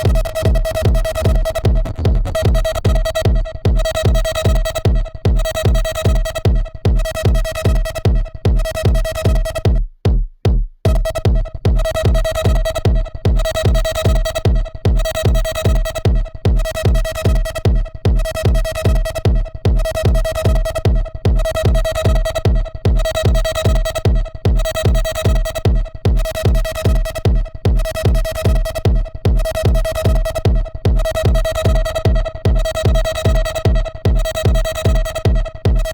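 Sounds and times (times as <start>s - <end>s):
electronic percussion: 0.0s - 35.9s
kick drum: 0.0s - 35.9s.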